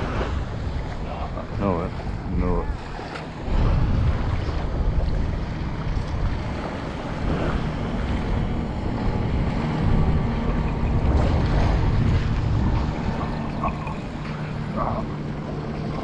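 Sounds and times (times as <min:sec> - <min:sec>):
motorboat engine droning: 0:00.0 - 0:16.0
small waves lapping: 0:00.0 - 0:16.0
wind buffeting microphone: 0:00.0 - 0:16.0.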